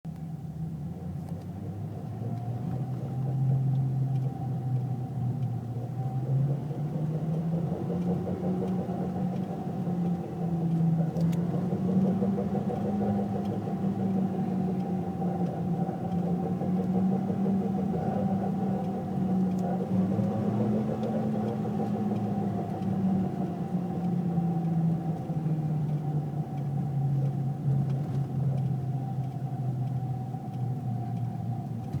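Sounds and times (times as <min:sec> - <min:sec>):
car engine under load: 0:00.0 - 0:32.0.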